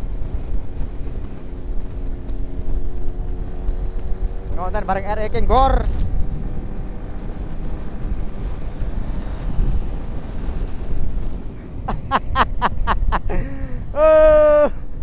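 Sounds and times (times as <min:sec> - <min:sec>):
motorcycle engine and road rumble: 0:00.0 - 0:15.0
wind on microphone: 0:00.0 - 0:15.0.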